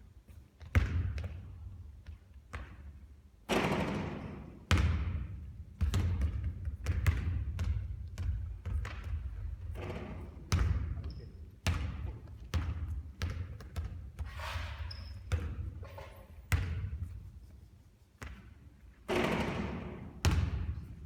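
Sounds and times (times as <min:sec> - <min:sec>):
basketball bouncing on hard court: 0:00.6 - 0:17.3, 0:18.2 - 0:21.0.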